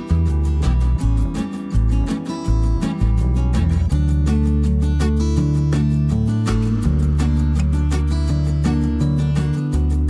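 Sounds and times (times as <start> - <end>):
guitar-led music with beat: 0.0 - 10.0.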